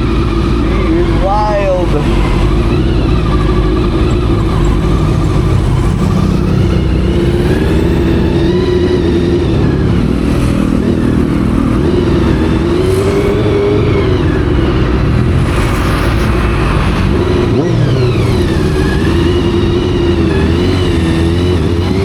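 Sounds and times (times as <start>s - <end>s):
motorcycle engine revving: 0.0s - 22.0s
wind rumble on microphone: 0.0s - 22.0s.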